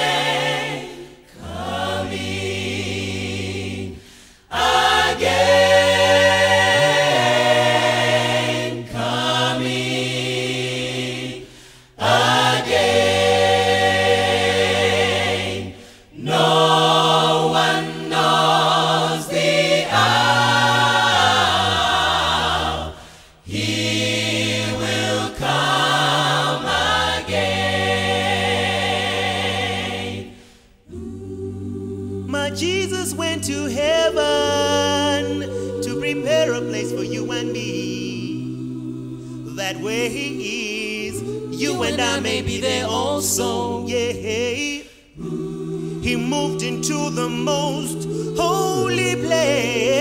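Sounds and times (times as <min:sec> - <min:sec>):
gospel choir singing in harmony: 0:00.0 - 0:50.0.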